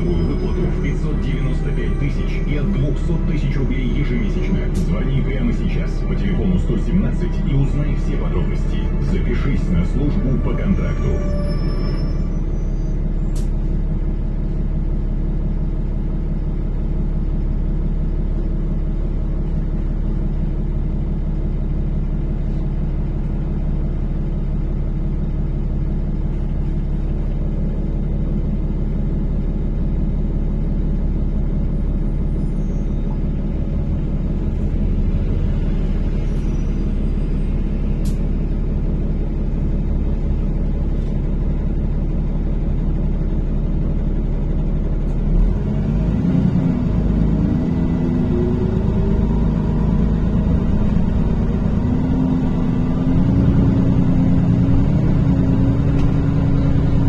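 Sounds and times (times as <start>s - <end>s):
bus engine drone: 0.0s - 57.0s
road rumble: 0.0s - 57.0s.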